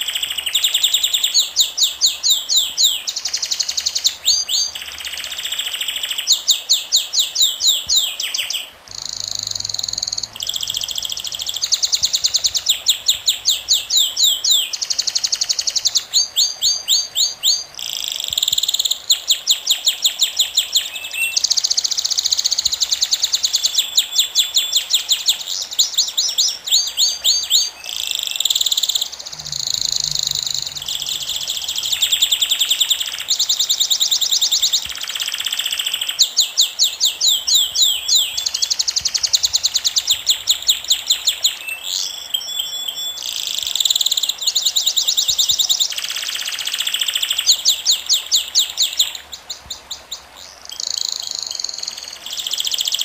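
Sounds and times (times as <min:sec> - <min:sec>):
songbird trilling: 0:00.0 - 0:53.0.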